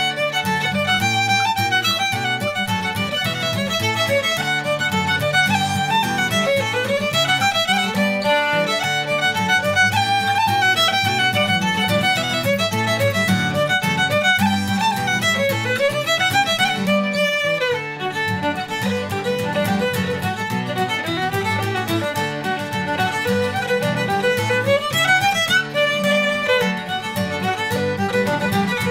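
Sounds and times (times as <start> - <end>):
acoustic guitar strumming: 0.0 - 28.9
fiddle playing quick runs: 0.0 - 28.9.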